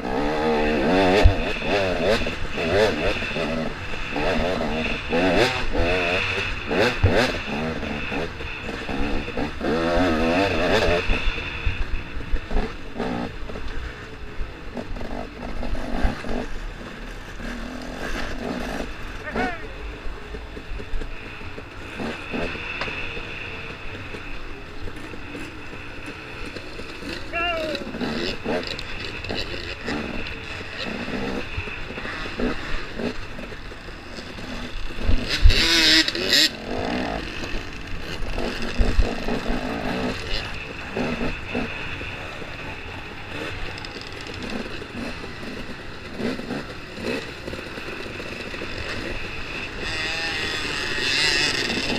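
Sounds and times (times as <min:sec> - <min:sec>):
two-stroke engine revving: 0:00.0 - 0:51.9.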